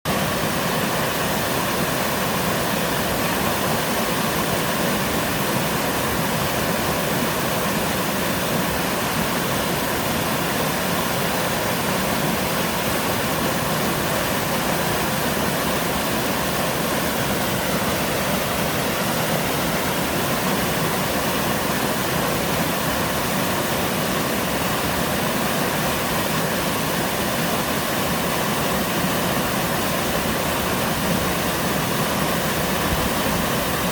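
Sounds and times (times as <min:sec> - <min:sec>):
waterfall rushing over rock: 0:00.1 - 0:33.9.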